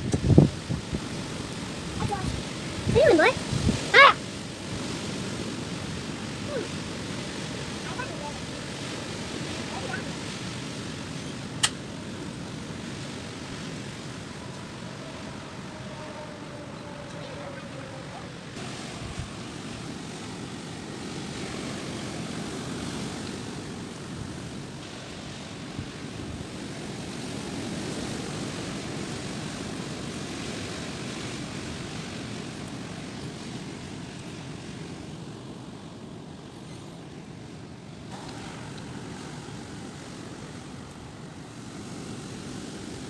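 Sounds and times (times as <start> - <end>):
gusty wind buffeting microphone: 0.0 - 35.5.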